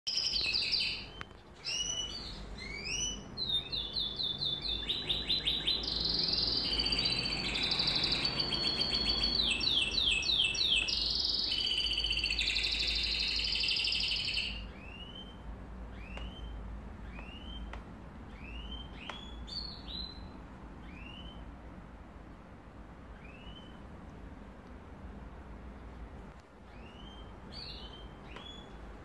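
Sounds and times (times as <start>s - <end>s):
songbirds chirping and singing: 0.1s - 21.5s, 25.8s - 28.9s.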